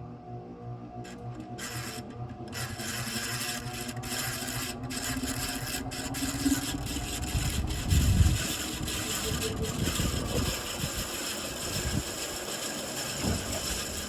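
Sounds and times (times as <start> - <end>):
ceiling fan grinding: 1.0 - 14.0.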